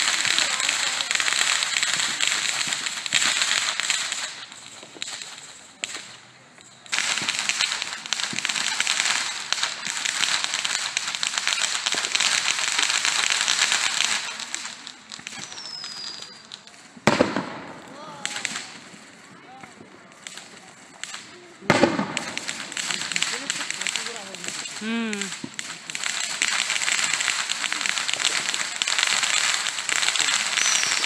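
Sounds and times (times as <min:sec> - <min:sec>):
fireworks crackling: 0:00.0 - 0:31.0.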